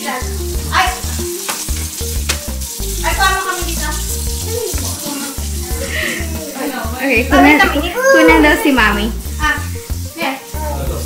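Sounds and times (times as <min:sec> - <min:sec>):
upbeat music with bass line: 0:00.3 - 0:11.0.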